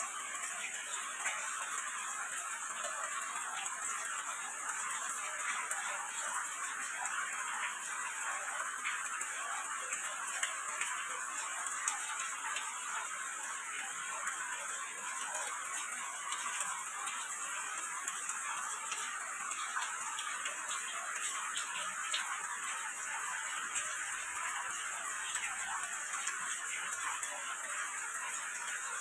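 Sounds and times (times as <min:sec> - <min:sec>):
raindrops ticking: 0:00.0 - 0:29.0
steady rain: 0:00.0 - 0:29.0.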